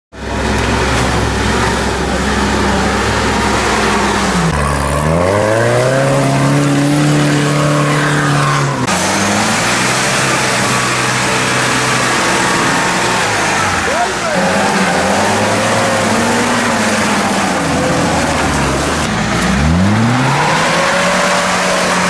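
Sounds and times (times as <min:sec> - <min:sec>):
off-road vehicle engine revving: 0:00.2 - 0:22.0.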